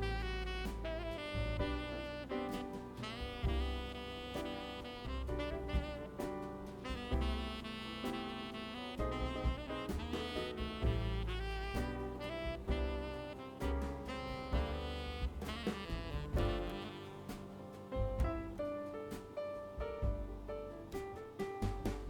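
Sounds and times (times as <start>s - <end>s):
jazz music with saxophone: 0.0s - 22.0s.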